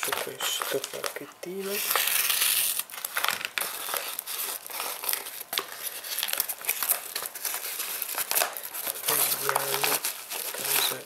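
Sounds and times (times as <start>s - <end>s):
padded envelope crinkling: 0.0s - 11.0s.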